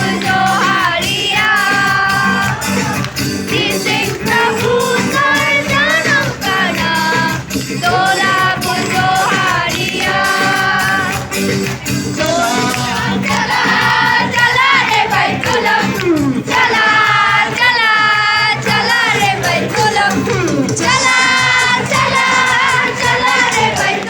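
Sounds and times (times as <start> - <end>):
group singing a carol: 0.0 - 24.0.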